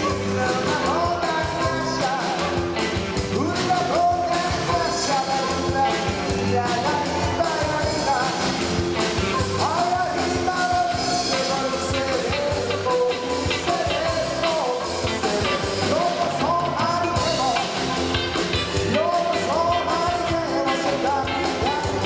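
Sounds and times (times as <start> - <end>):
rock song with singer: 0.0 - 22.0
steady drum beat: 0.0 - 22.0.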